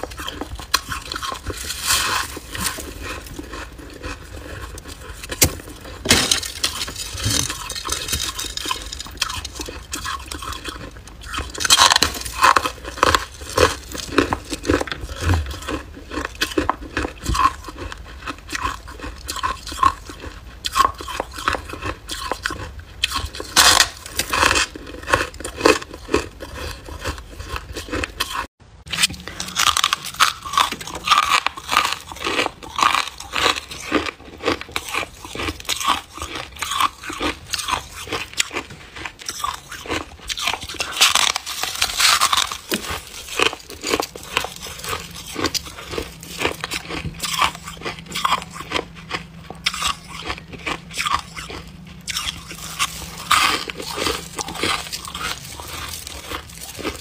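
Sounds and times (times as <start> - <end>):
ice being chewed with crunches: 0.0 - 57.0.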